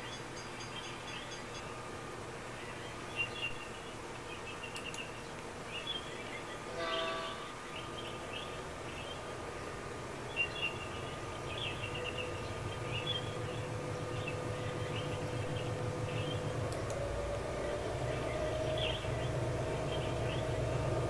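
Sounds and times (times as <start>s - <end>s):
small birds chirping: 0.0s - 21.0s
steady hum: 0.0s - 21.0s.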